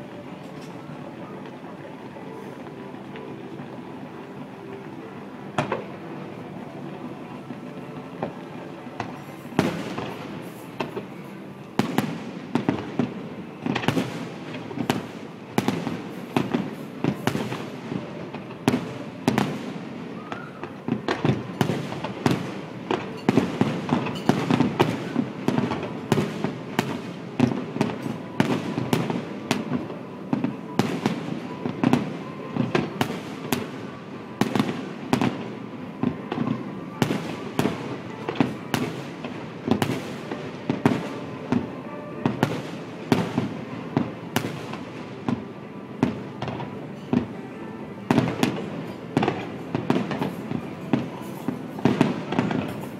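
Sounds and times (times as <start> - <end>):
fireworks bursting: 5.5 - 47.4, 48.0 - 52.9.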